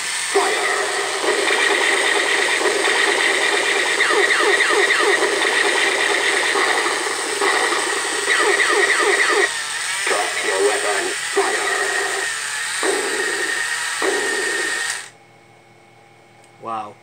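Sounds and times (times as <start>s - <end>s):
toy laser-gun effect: 0.1s - 15.1s
pulsing electronic tone: 0.4s - 15.1s.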